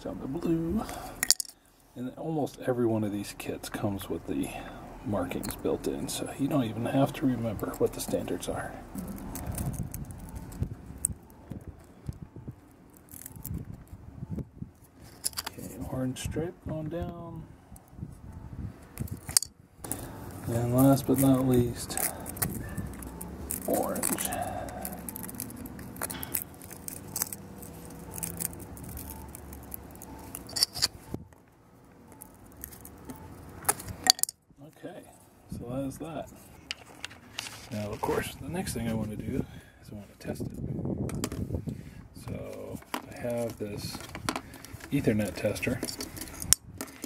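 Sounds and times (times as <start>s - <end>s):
soft rustling of wires: 5.2s - 16.1s, 16.7s - 34.1s, 35.1s - 47.0s.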